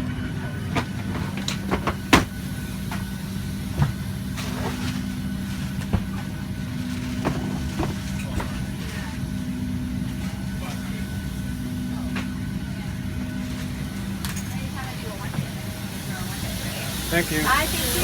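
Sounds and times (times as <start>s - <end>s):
cabin air system hum: 0.0s - 18.0s
passengers' clicks and knocks: 0.0s - 18.0s.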